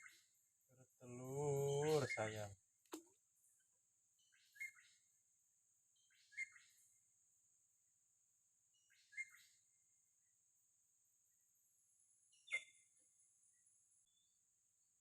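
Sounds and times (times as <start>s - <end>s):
bird chirping faintly: 0.0s - 7.4s, 8.6s - 15.0s.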